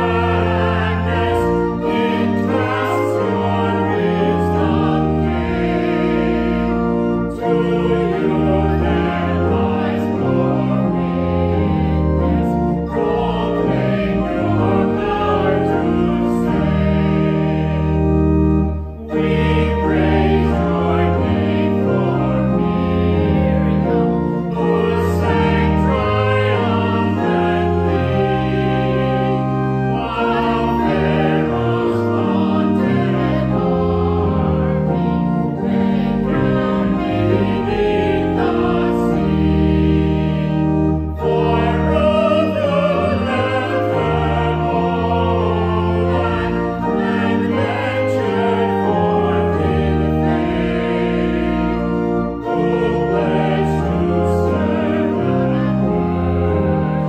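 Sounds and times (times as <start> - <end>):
choir singing a hymn: 0.0 - 57.0
organ accompaniment: 0.0 - 57.0.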